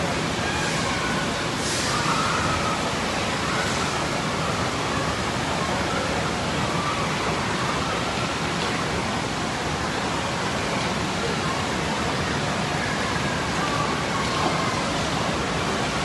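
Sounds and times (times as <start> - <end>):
water rushing along a channel: 0.0 - 16.0.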